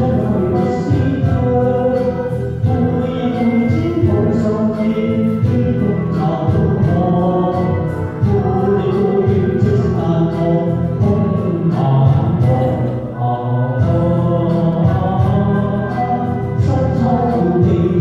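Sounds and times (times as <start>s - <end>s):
backing music: 0.0s - 18.0s
man singing into microphone: 0.0s - 18.0s.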